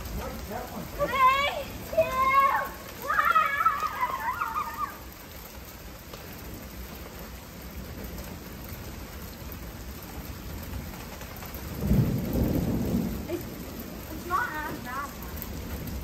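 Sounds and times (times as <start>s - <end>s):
rain on pavement: 0.0s - 16.0s
thunder rumble: 0.0s - 16.0s.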